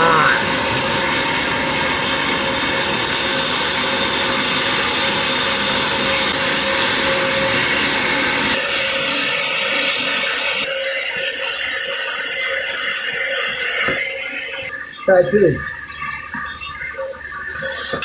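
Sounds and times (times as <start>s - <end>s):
plasma cutter hissing: 0.0s - 15.6s, 17.5s - 18.0s.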